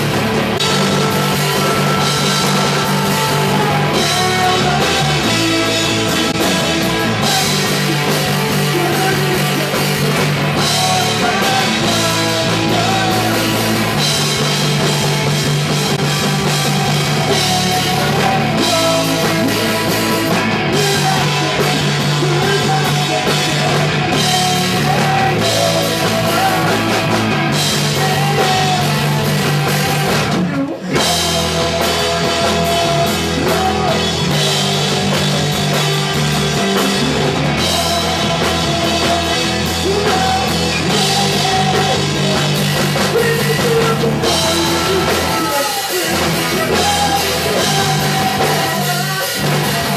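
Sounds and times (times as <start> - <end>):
punk rock band playing live: 0.0 - 49.9
person singing: 0.4 - 15.2, 16.2 - 49.9.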